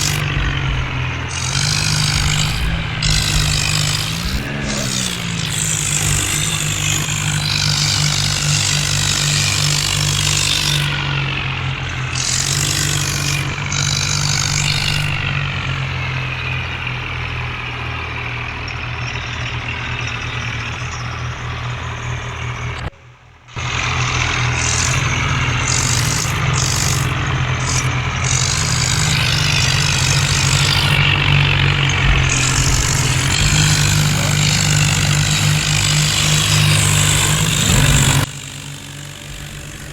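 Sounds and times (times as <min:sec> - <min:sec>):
tractor diesel engines under load: 0:00.0 - 0:39.9.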